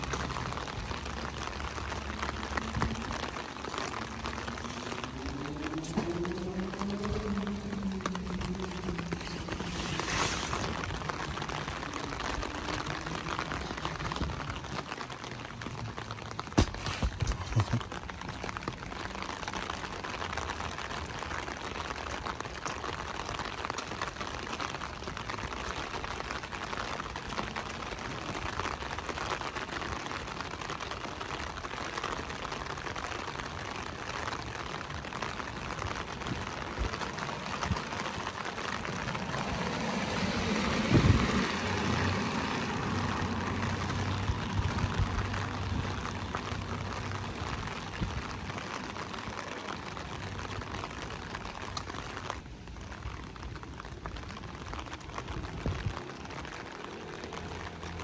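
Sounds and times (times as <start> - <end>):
rain on a wet street: 0.0 - 58.0.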